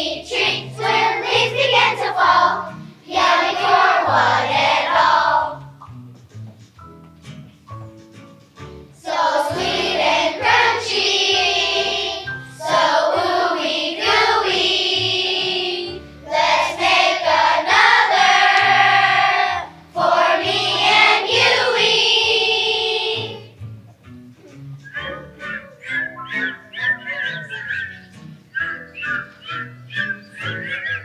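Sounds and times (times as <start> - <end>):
children's choir singing: 0.0 - 5.8, 9.0 - 23.6, 24.9 - 31.0
low instrumental accompaniment: 0.0 - 31.0.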